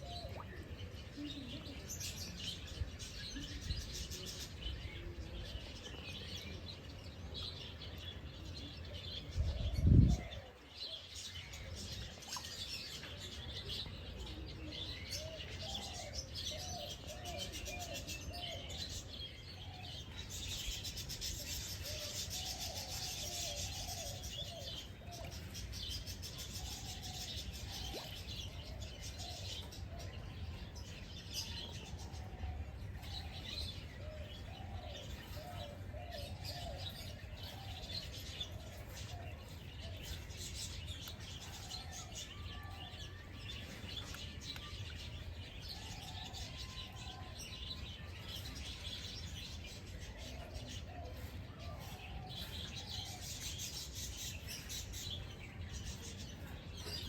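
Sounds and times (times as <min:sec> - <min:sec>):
wild birds chirping: 0:00.0 - 0:57.0.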